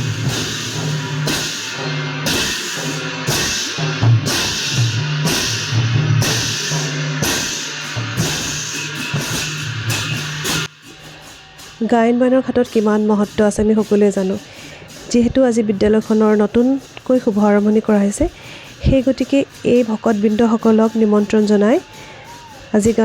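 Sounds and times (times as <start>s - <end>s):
music with drums and cymbals: 0.0s - 23.0s.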